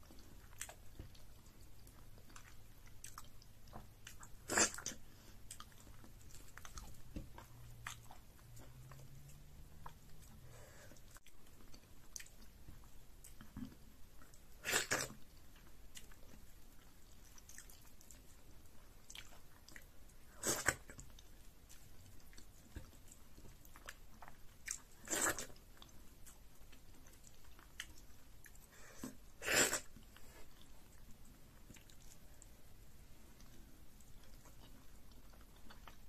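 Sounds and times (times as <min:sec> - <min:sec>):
person chewing food: 0:00.0 - 0:36.0.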